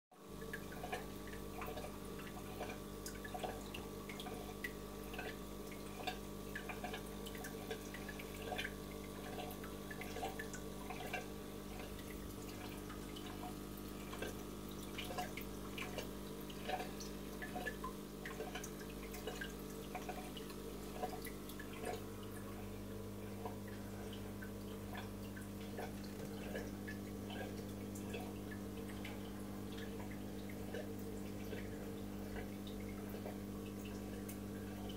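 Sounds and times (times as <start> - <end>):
pump hum: 0.2 - 34.9
water dripping and trickling: 0.2 - 34.9.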